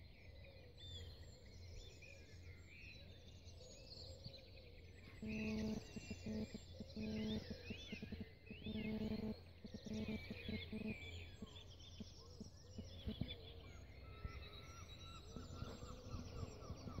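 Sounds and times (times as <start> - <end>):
faint low hum: 0.0 - 17.0
songbirds singing: 0.0 - 17.0.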